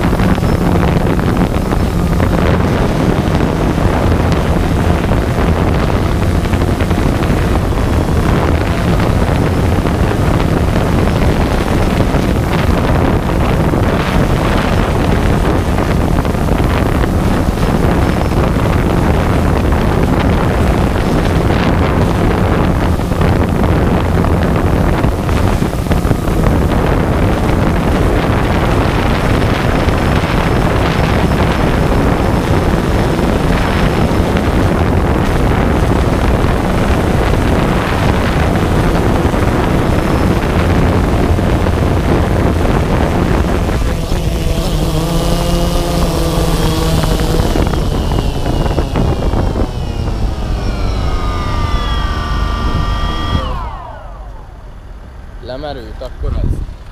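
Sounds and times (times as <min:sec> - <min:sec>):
drone propellers: 0:00.0 - 0:56.9
wavering motor hum: 0:00.0 - 0:56.9
wind on microphone: 0:00.0 - 0:56.9.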